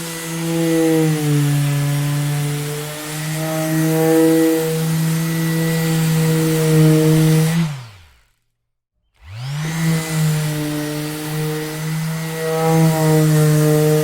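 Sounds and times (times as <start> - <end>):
orbital sander motor: 0.0 - 8.5, 9.1 - 14.0.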